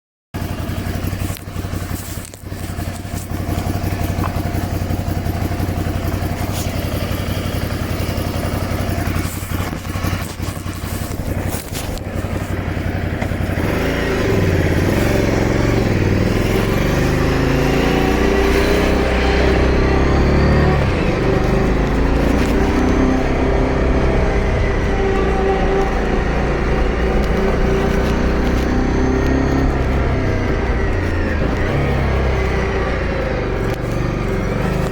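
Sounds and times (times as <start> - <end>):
motorcycle engine idling and revving: 0.4 - 34.9.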